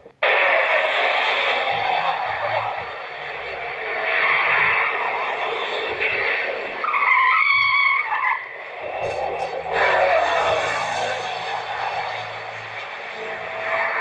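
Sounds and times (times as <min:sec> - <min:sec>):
car tyres skidding and squealing: 0:00.2 - 0:14.0.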